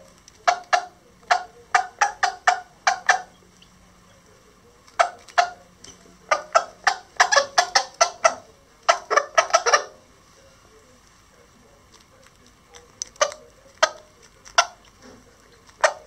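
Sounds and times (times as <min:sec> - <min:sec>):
chickens pecking feed: 0:00.0 - 0:16.0.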